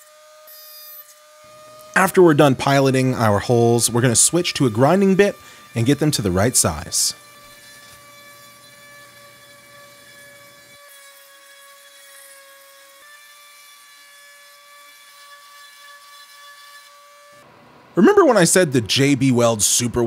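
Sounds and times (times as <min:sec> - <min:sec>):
rotary tool whining: 0:00.0 - 0:17.9.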